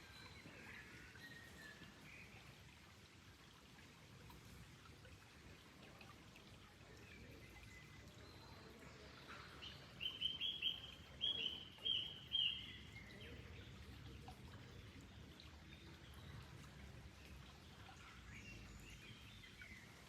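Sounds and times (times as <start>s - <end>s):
faint running water: 0.0s - 20.0s.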